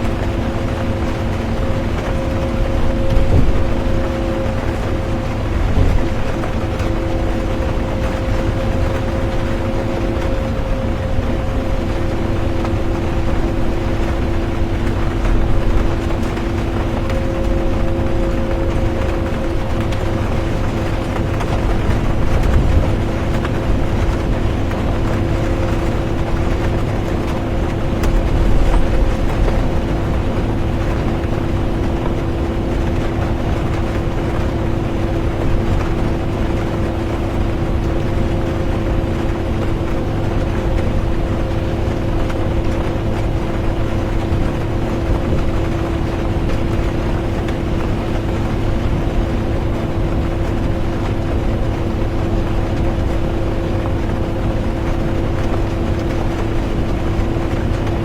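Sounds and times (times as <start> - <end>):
bus engine and road rumble: 0.0 - 58.0
droning hum: 0.0 - 58.0
rain: 0.0 - 58.0.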